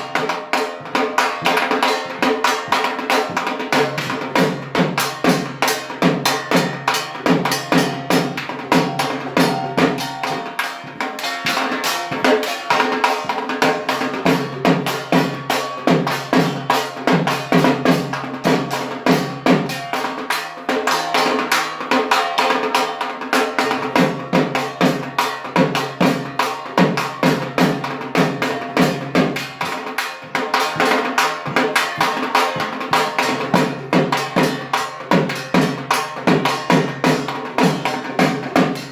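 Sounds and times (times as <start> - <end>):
large drum beaten with sticks: 0.0 - 38.9.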